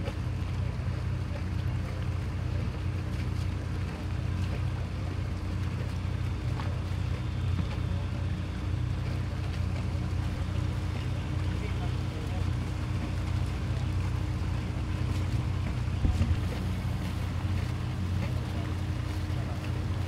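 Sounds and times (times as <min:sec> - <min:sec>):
faint constant hum: 0:00.0 - 0:20.0
low engine drone: 0:00.0 - 0:20.0.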